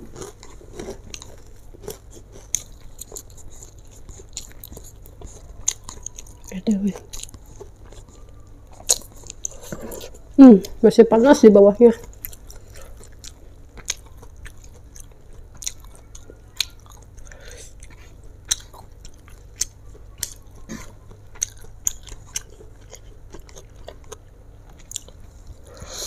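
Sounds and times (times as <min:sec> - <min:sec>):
chewing noodles: 0:00.0 - 0:10.8, 0:12.0 - 0:26.0.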